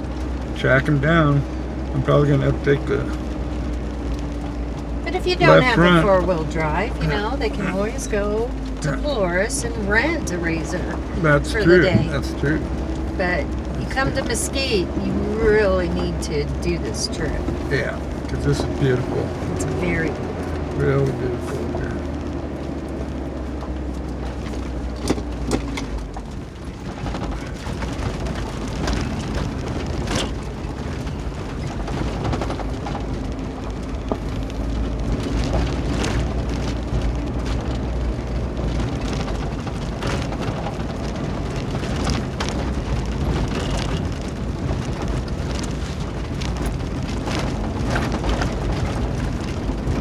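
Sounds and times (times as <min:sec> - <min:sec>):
gravel knocking under vehicle: 0:00.0 - 0:50.0
vehicle rumbling on gravel road: 0:00.0 - 0:50.0.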